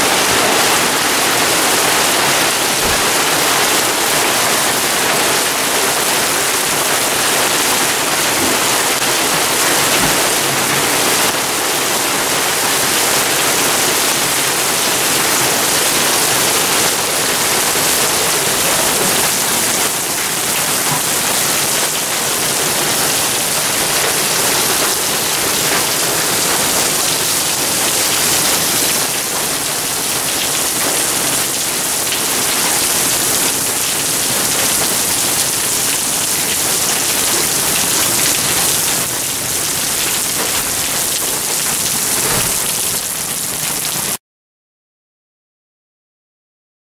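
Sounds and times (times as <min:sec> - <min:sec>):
hail and rain on concrete: 0:00.0 - 0:44.2.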